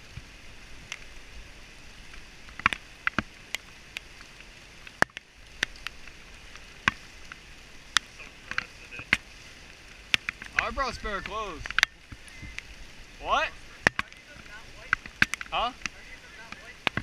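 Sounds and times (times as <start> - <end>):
rain hissing: 0.0 - 17.0
raindrops tapping on gear: 0.0 - 17.0.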